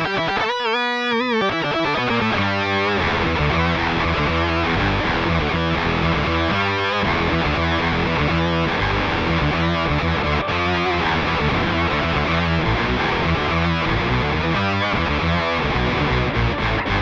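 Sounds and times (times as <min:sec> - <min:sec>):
distorted electric guitar riffing: 0:00.0 - 0:17.0.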